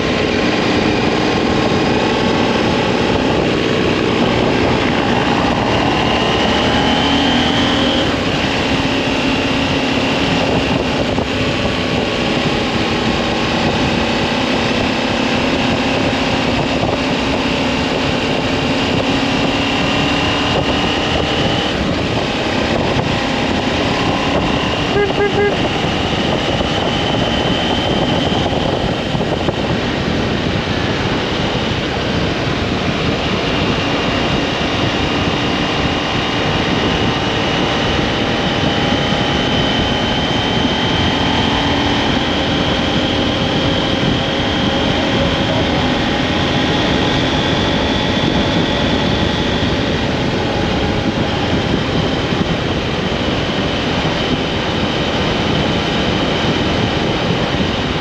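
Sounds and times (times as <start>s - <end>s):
faint motorcycle engine hum: 0.0s - 58.0s
wind and road noise: 0.0s - 58.0s.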